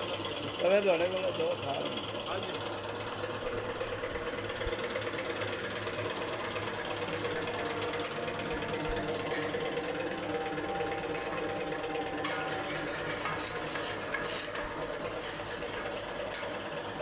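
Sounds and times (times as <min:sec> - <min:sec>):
machine humming and clattering: 0:00.0 - 0:17.0.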